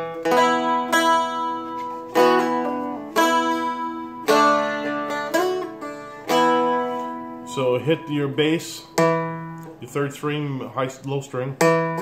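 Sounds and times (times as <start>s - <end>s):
dulcimer strummed with a pick: 0.0s - 12.0s.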